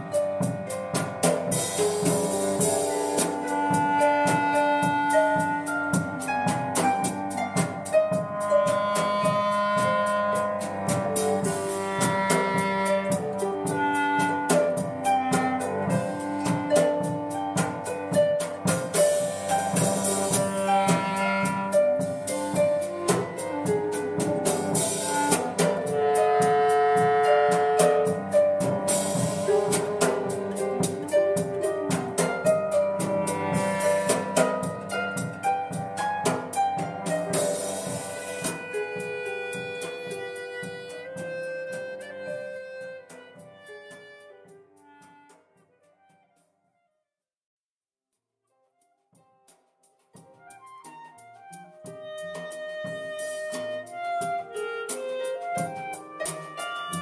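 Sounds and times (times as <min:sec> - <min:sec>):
harp: 0:00.0 - 0:44.8, 0:50.2 - 0:57.0
drum strokes: 0:00.0 - 0:45.6, 0:49.2 - 0:57.0
cello: 0:00.0 - 0:45.9, 0:50.3 - 0:57.0
clarinet: 0:00.0 - 0:47.0, 0:48.8 - 0:57.0.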